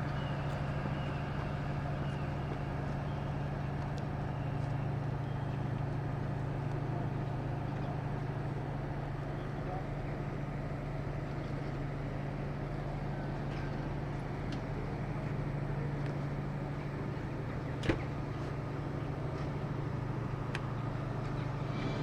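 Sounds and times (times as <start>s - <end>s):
low mechanical hum: 0.0s - 22.0s
outdoor background noise: 0.0s - 22.0s.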